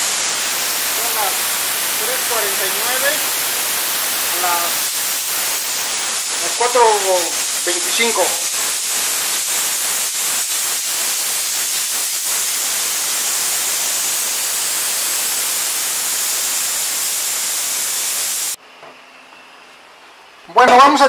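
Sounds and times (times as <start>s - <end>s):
pressure cooker hissing: 0.0s - 18.6s.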